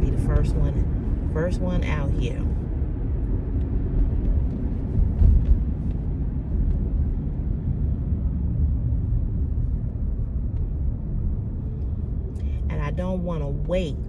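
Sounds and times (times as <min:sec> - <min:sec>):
car rumble from inside cabin: 0:00.0 - 0:14.0.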